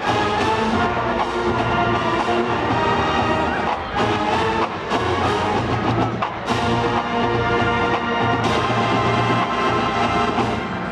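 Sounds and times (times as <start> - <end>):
marching band playing: 0.0 - 10.9.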